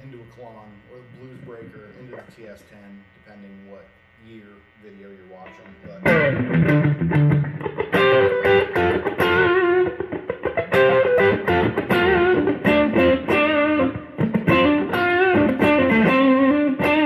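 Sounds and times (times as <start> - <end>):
overdriven electric guitar lead: 3.1 - 17.0.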